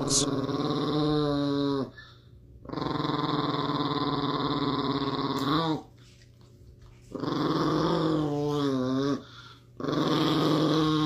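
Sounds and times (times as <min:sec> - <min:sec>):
small dog growling: 0:00.0 - 0:02.0, 0:02.6 - 0:05.9, 0:07.1 - 0:11.0.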